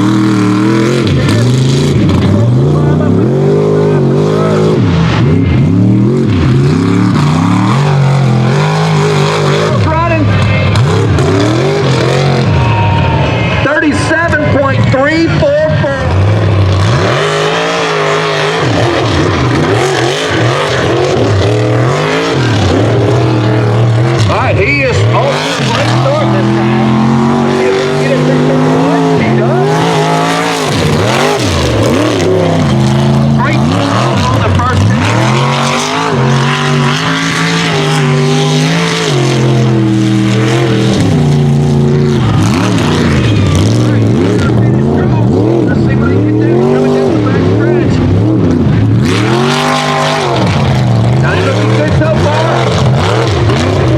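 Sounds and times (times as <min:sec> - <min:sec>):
truck engine revving hard: 0:00.0 - 0:53.9.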